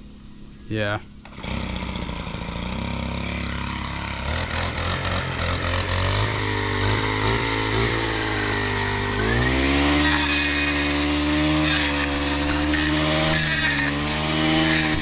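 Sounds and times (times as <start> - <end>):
small gas engine idling and revving: 1.2 - 15.0.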